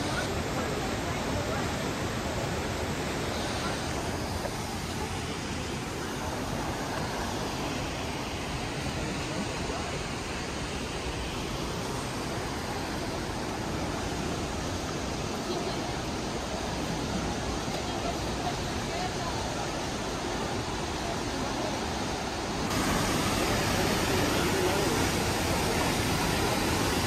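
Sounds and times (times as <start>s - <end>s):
waterfall roar: 0.0s - 27.0s.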